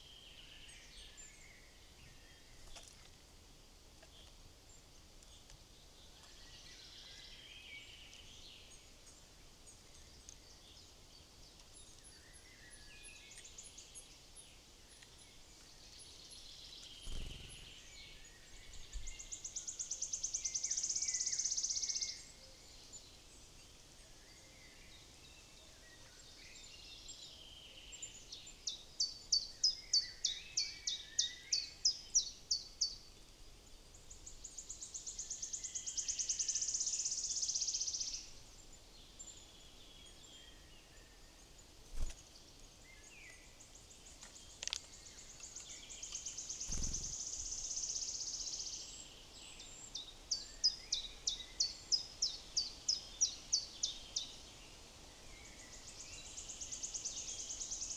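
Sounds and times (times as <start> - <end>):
songbirds singing: 4.0 - 57.9.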